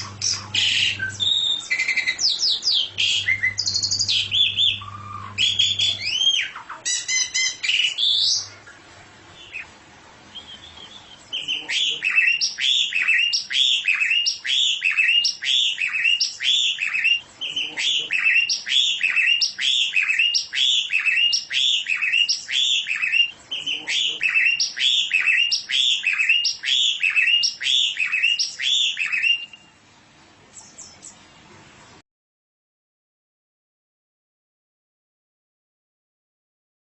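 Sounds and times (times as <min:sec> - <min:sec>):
songbird chirping: 0:00.0 - 0:32.0.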